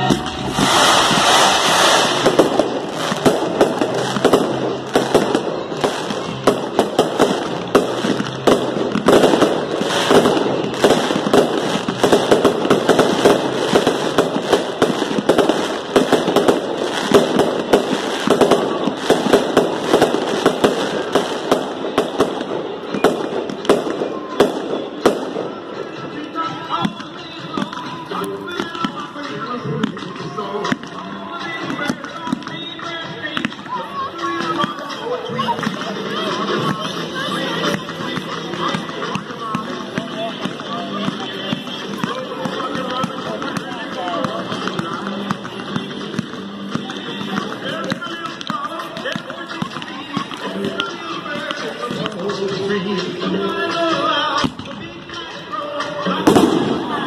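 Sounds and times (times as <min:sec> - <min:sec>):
fireworks bursting and crackling: 0:00.0 - 0:57.0.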